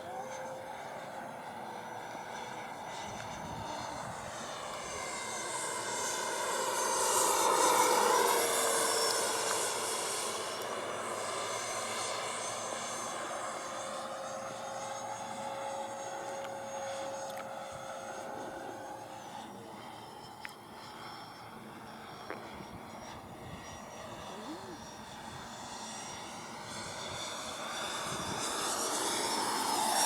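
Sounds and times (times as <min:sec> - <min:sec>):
model jet fans whining: 0:00.0 - 0:30.0.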